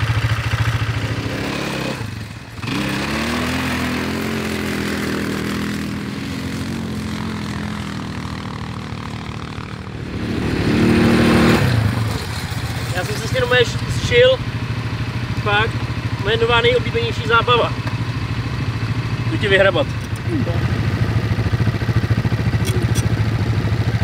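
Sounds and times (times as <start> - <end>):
quad bike engine revving: 0.0 - 24.0.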